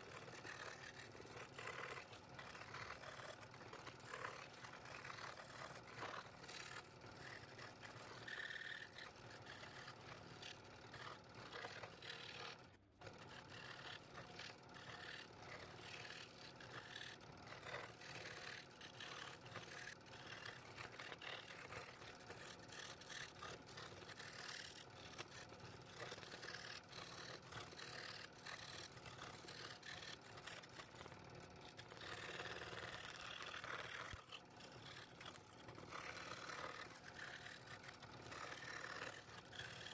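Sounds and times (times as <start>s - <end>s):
scroll saw cutting wood: 0.0s - 39.9s.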